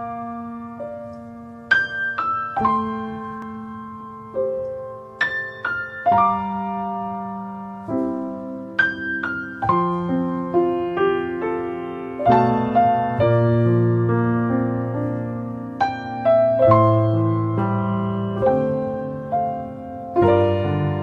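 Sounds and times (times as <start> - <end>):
gentle solo piano: 0.0 - 21.0.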